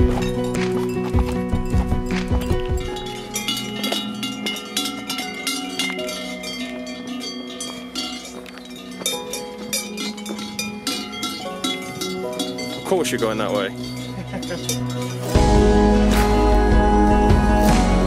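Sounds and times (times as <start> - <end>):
cow bells clanking: 0.0 - 17.3.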